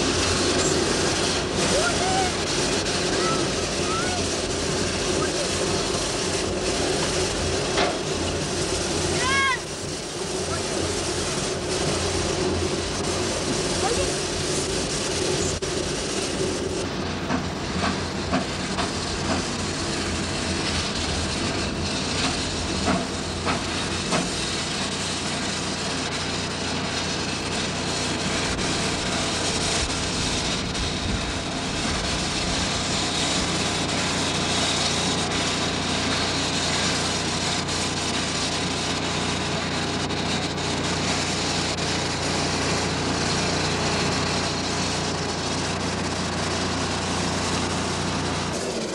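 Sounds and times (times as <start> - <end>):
steam hiss and machinery noise: 0.0 - 48.9.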